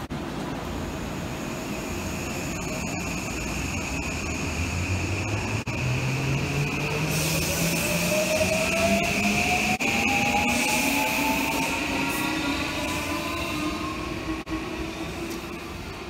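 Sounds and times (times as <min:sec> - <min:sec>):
electric train whine: 0:00.3 - 0:16.0.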